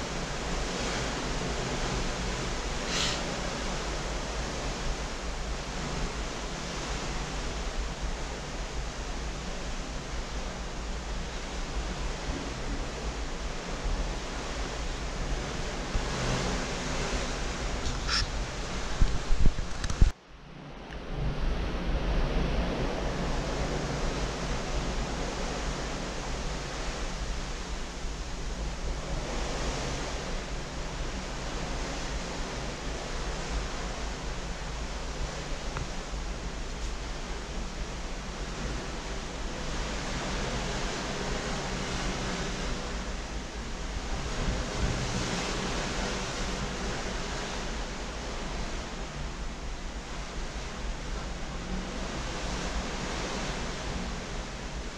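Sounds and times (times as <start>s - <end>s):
sea water streaming past hull: 0.0s - 54.9s.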